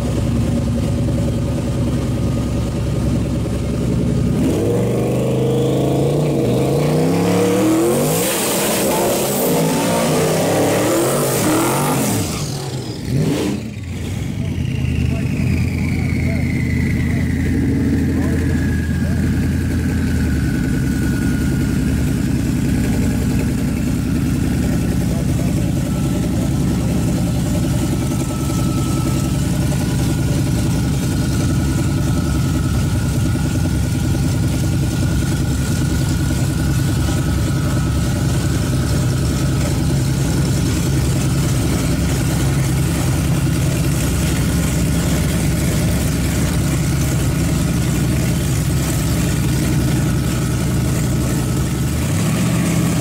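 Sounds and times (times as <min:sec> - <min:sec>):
truck engine idling: 0:00.0 - 0:08.0, 0:08.6 - 0:53.0.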